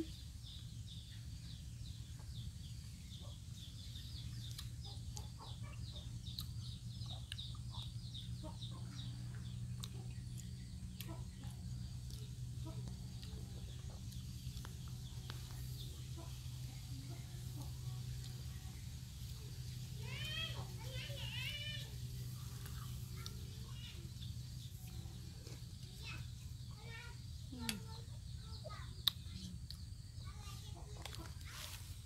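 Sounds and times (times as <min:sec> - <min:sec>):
birds clucking and chirping: 0:00.0 - 0:32.0
steady low hum: 0:00.0 - 0:32.0.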